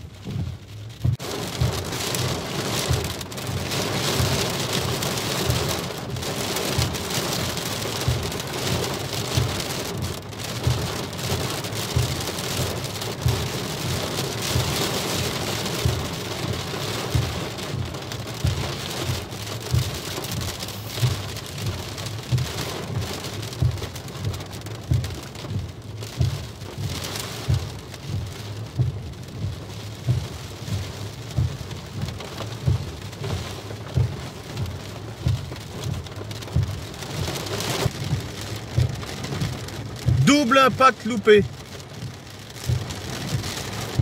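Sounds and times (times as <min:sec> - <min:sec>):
heavy rain on car roof: 0:00.0 - 0:44.0.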